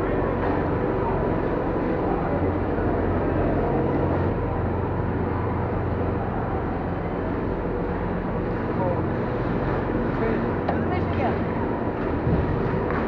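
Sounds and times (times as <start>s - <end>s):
arena noise: 0.0s - 13.0s
low hum and rumble: 0.0s - 13.0s.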